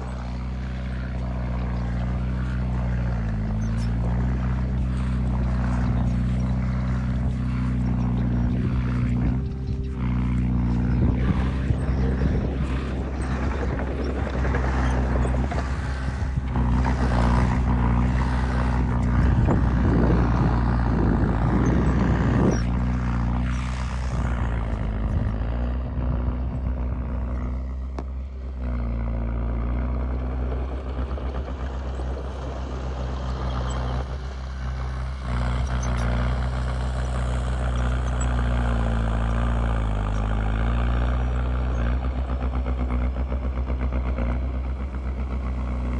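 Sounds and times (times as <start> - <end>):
heavy diesel engine running: 0.0 - 45.9
rough clatter and crunching: 0.0 - 45.9.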